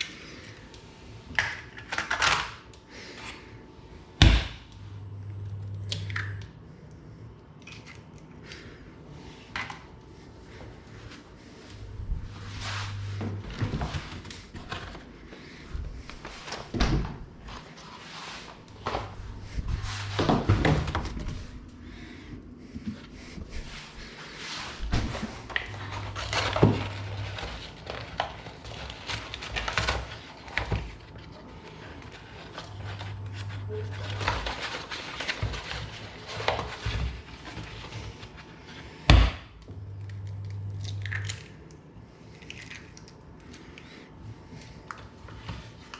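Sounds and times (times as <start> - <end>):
low hum: 0.0 - 45.9.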